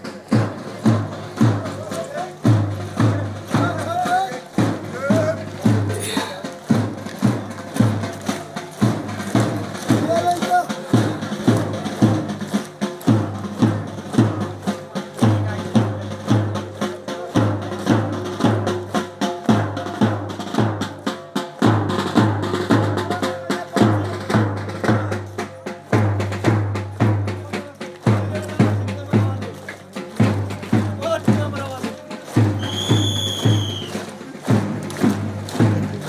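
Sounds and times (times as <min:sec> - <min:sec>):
music with steady drum beat: 0:00.0 - 0:36.0.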